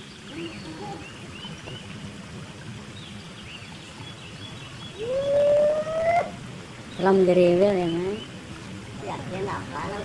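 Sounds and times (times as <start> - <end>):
drizzle hissing on pond: 0.0 - 10.0.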